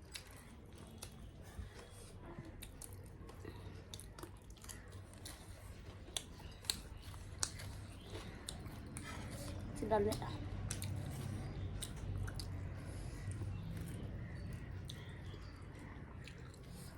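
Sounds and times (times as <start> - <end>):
quiet chewing of food: 0.0 - 16.9.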